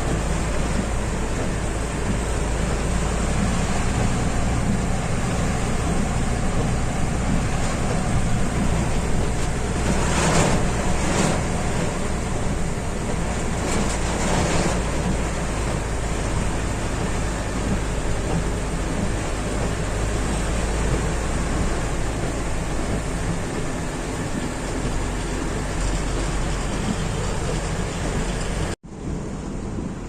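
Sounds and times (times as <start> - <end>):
low engine rumble: 0.0 - 30.0
rain hissing: 0.0 - 30.0.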